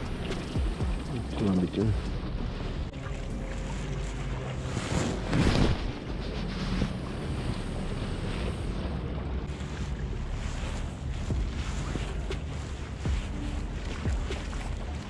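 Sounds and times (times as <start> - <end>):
sea waves washing on shore: 0.0 - 15.0.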